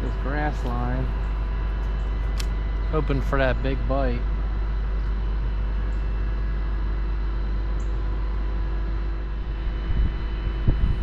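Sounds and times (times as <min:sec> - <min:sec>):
faint constant hum: 0:00.0 - 0:11.0
low buffeting wind gusts: 0:00.0 - 0:11.0
low outdoor rumble: 0:00.0 - 0:11.0.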